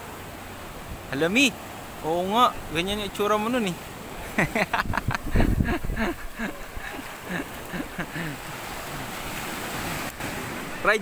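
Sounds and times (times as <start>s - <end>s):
waves washing onto sand: 0.0s - 11.0s.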